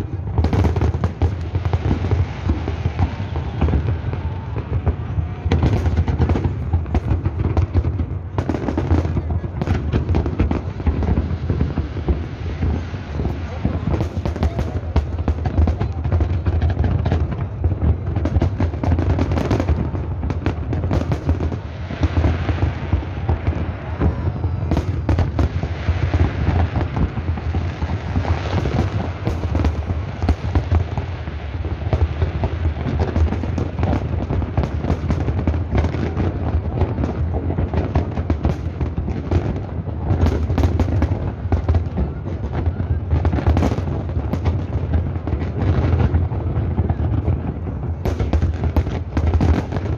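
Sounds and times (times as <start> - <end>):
fireworks booming and crackling: 0.0 - 49.9.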